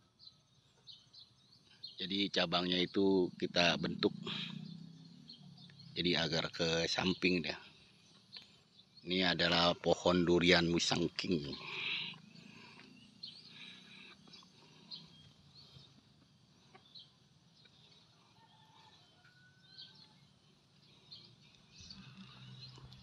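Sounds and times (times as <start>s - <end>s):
faint bird chirps: 0.0s - 23.0s.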